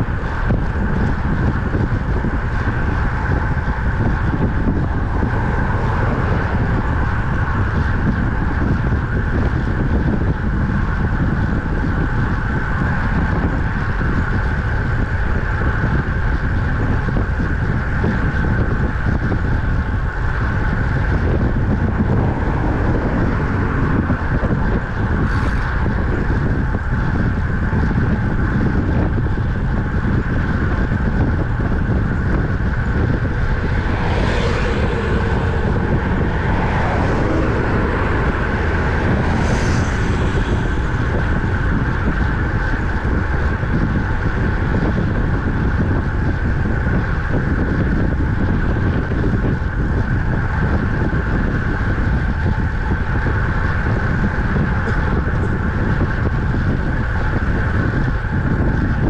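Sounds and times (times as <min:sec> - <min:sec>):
wind rushing on microphone: 0:00.0 - 0:59.0.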